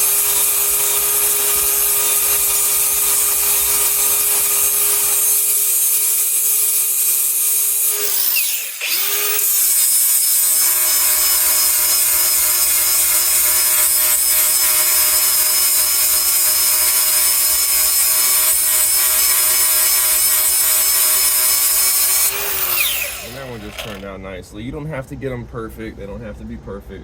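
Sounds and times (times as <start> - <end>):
power grinder on metal: 0.0 - 24.1.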